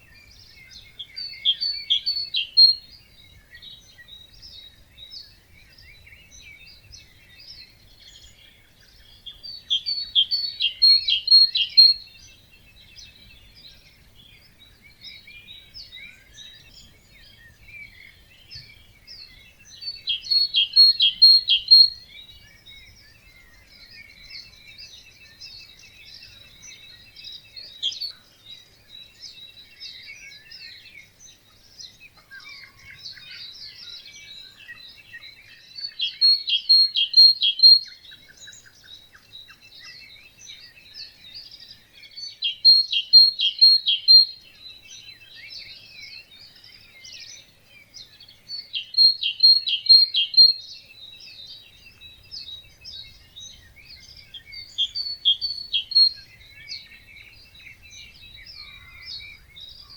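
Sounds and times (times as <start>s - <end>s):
bird singing ringing notes: 0.0s - 59.9s
songbirds twittering: 0.0s - 59.9s.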